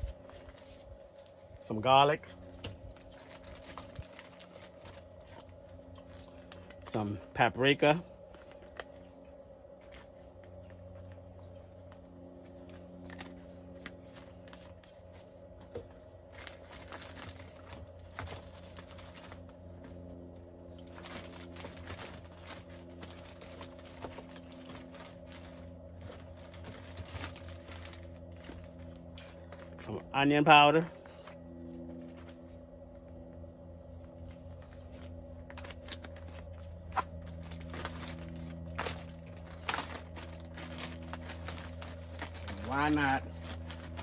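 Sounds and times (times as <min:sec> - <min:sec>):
plastic bag rustling: 0:00.0 - 0:07.4, 0:12.7 - 0:20.0, 0:20.6 - 0:31.4, 0:33.8 - 0:44.0
steady low hum: 0:00.0 - 0:44.0.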